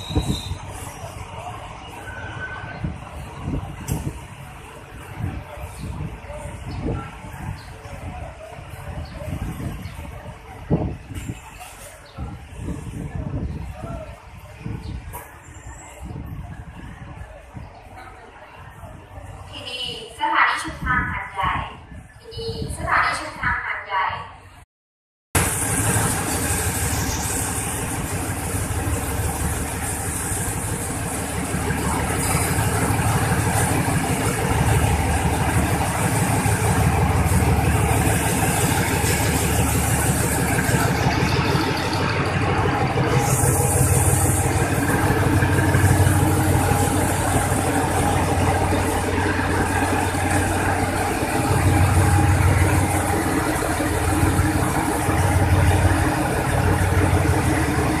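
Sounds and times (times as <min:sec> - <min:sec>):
locomotive engine drone: 0:00.0 - 0:14.7, 0:25.4 - 0:58.0
rumble of moving train: 0:00.0 - 0:24.6, 0:25.4 - 0:58.0.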